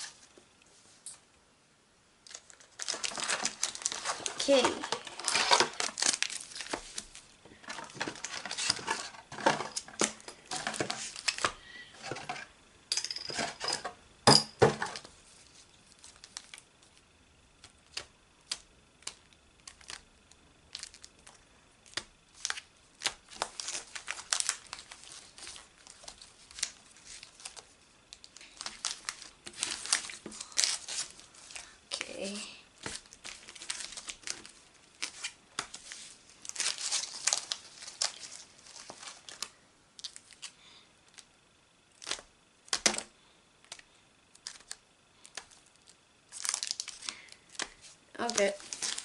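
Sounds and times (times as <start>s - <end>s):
foil wrappers crinkling: 2.2s - 12.3s, 14.8s - 41.3s, 41.9s - 49.0s.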